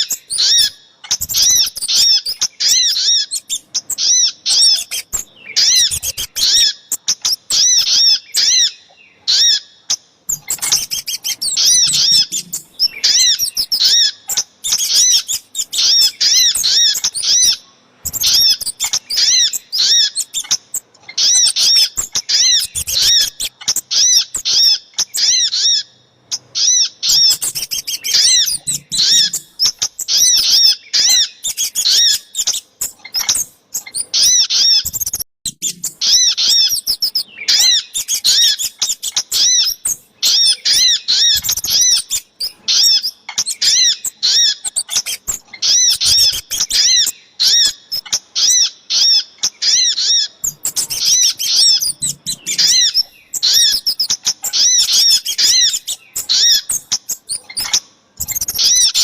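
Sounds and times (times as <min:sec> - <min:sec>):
high arching bird chirps: 0:00.0 - 0:59.0.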